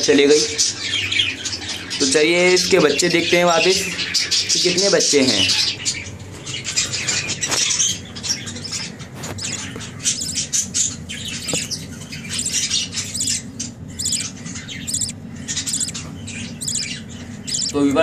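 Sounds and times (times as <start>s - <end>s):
budgerigars chirping: 0.6s - 18.0s.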